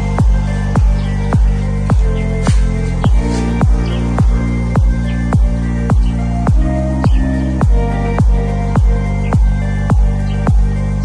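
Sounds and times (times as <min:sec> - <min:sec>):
electronic music with deep kick drum: 0:00.0 - 0:11.0.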